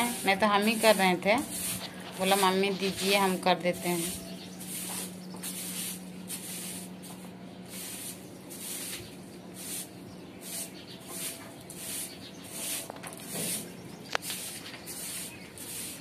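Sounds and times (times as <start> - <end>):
broom sweeping concrete: 0.0 - 16.0.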